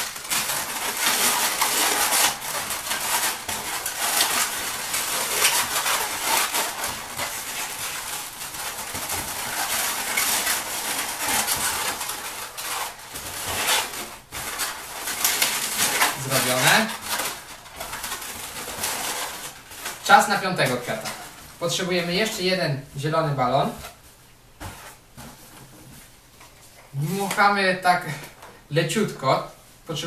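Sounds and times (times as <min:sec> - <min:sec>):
balloons squeaking and rubbing: 0:00.0 - 0:26.0.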